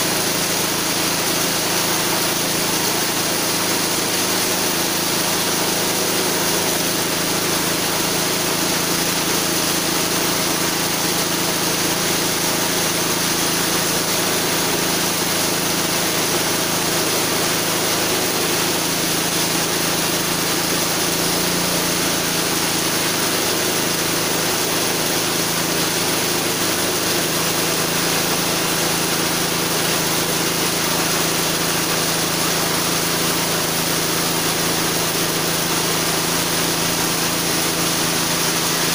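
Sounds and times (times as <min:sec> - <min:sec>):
saw chain cutting log: 0:00.0 - 0:38.9
small petrol engine running steadily: 0:00.0 - 0:38.9.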